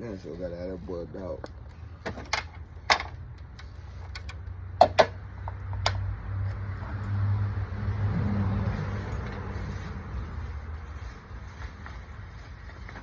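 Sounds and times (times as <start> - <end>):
vehicle engine hum: 0.1 - 13.0.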